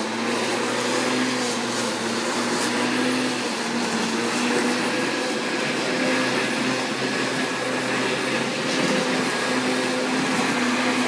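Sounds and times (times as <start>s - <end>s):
lawnmower running: 0.0s - 11.0s.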